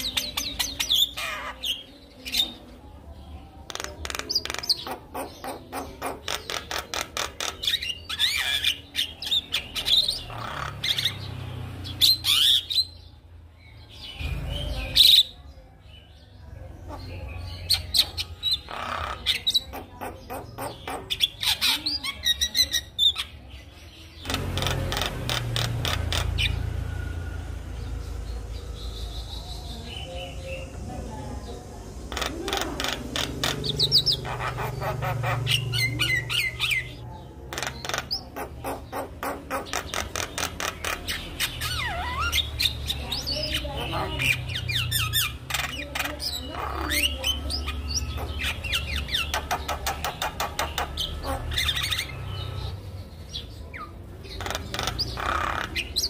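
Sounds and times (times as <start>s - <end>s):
myna bird chattering: 0.0s - 26.8s, 27.8s - 56.0s.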